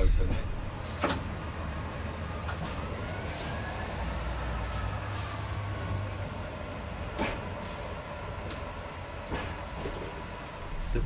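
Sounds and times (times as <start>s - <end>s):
diesel railcar engine rumble: 0.0s - 11.0s.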